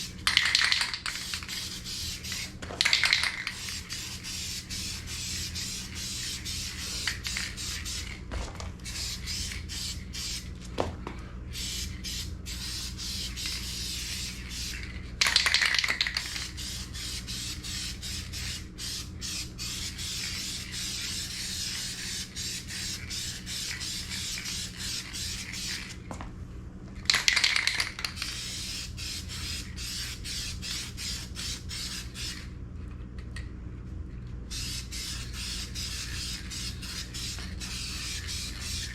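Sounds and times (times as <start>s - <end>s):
spray-paint can hissing: 0.0s - 8.2s, 8.8s - 10.5s, 11.5s - 26.0s, 27.1s - 32.5s, 34.5s - 38.9s.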